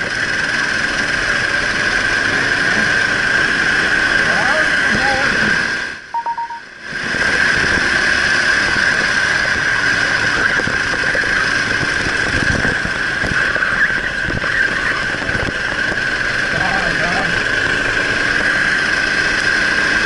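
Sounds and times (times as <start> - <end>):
kart engine high-pitched whine: 0.0 - 6.1, 6.7 - 20.0.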